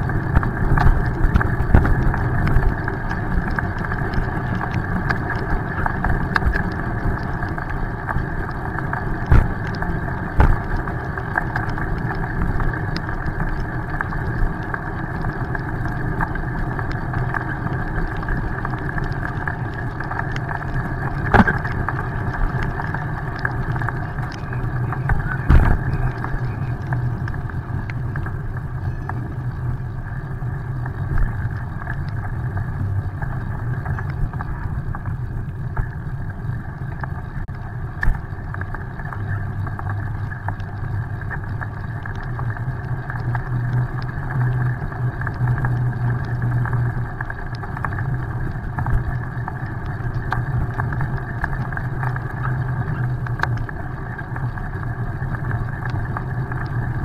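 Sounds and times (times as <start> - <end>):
bicycle tyres on wet pavement: 0.0 - 57.0
muffled wind rumble: 0.0 - 57.0.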